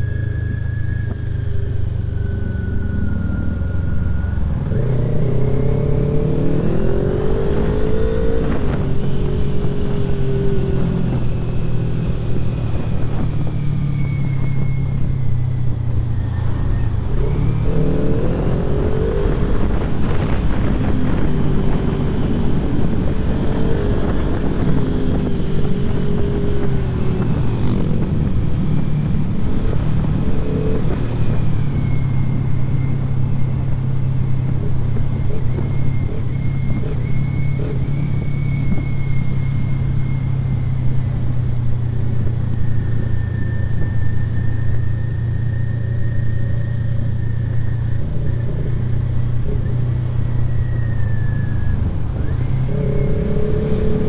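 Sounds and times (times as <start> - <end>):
constant low rush: 0.0 - 54.0
motorcycle engine accelerating: 0.0 - 54.0.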